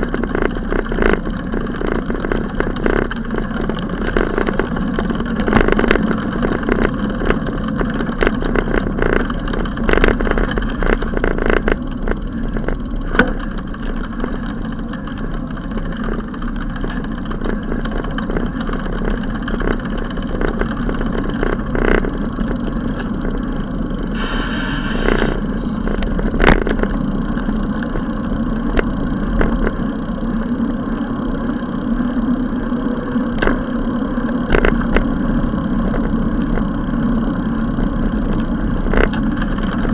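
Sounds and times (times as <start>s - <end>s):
bicycle knocks and rattles: 0.0s - 24.3s, 25.0s - 39.9s
bicycle road and wind noise: 0.0s - 39.9s.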